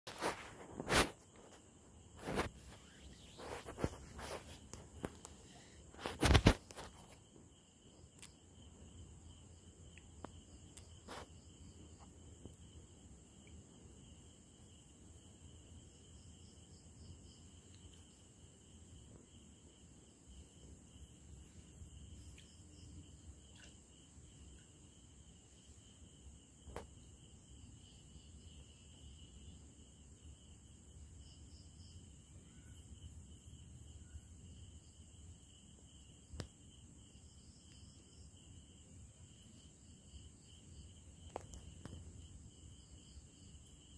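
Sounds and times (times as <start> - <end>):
crickets chirping: 0.1 - 43.9.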